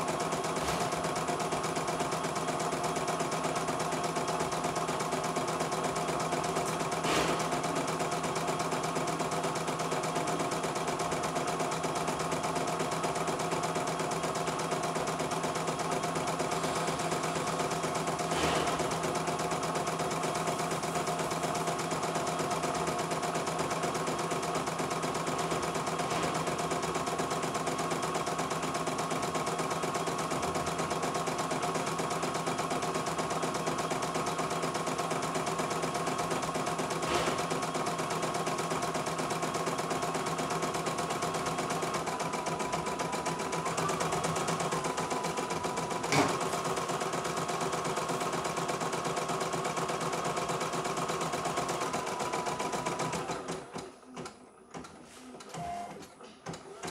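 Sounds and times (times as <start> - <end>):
embroidery machine stitching: 0.0 - 56.9.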